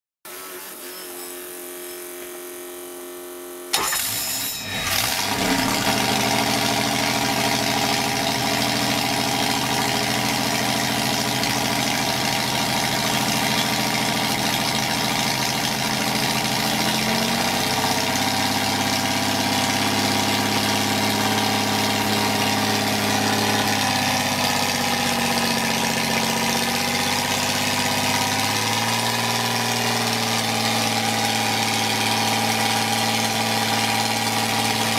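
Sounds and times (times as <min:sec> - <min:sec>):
engine starting and idling: 0:03.7 - 0:34.9.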